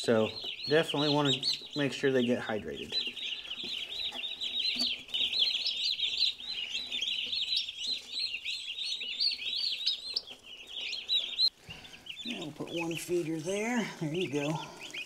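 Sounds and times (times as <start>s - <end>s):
turkey poults peeping: 0.0s - 15.0s.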